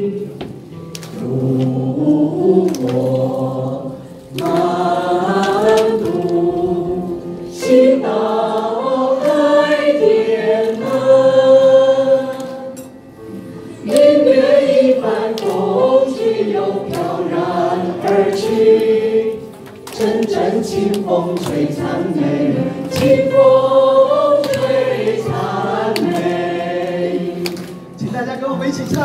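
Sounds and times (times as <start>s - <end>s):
group singing into microphones: 0.0s - 28.0s.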